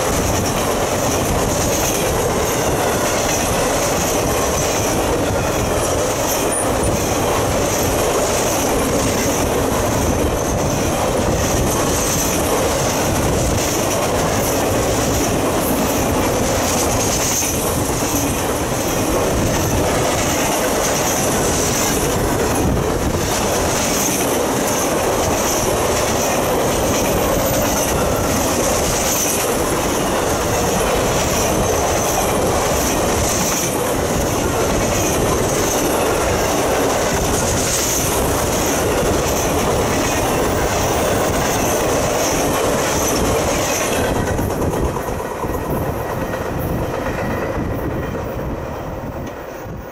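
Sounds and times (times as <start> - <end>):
train wheels rolling on rails: 0.0 - 49.9.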